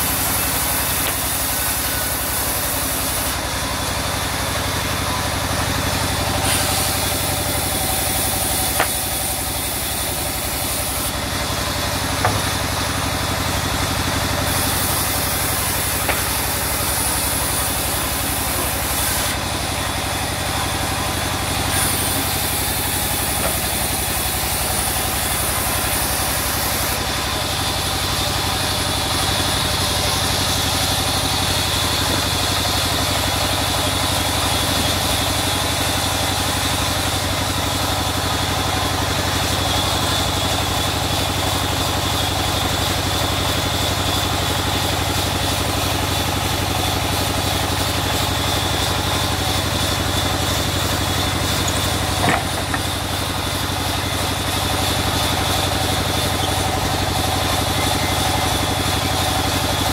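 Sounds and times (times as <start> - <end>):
band saw cutting a log: 0.0 - 59.9.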